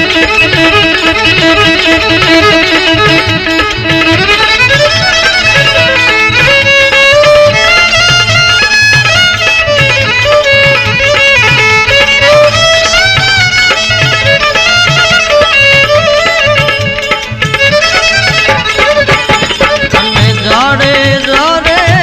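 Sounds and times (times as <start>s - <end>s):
ornamented folk melody: 0.0s - 22.0s
steady drum beat: 0.0s - 22.0s.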